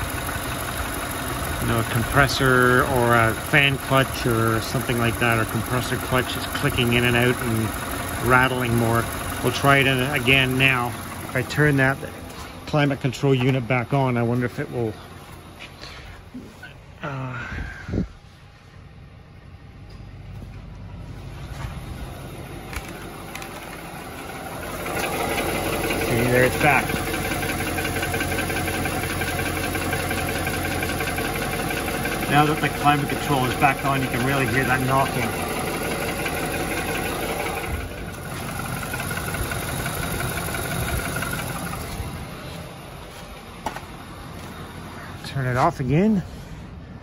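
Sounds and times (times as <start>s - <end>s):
truck engine idling: 0.0s - 17.4s, 18.2s - 47.0s.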